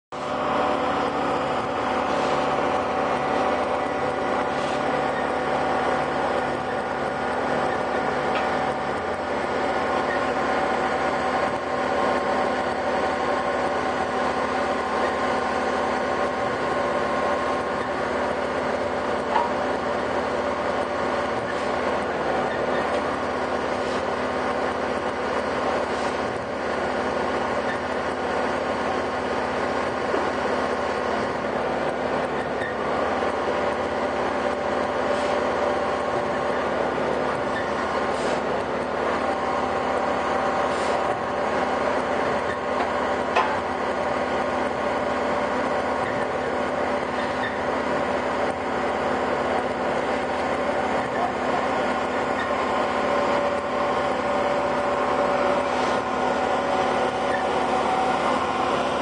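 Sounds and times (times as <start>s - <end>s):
heavy machinery engine drone: 0.1s - 59.0s.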